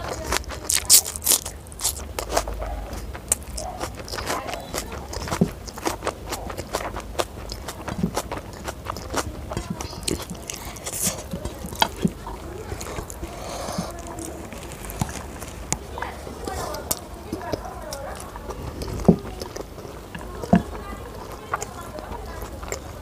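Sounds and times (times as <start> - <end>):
fingers gathering rice on plate: 0.0 - 23.0
wet chewing and smacking: 0.0 - 23.0.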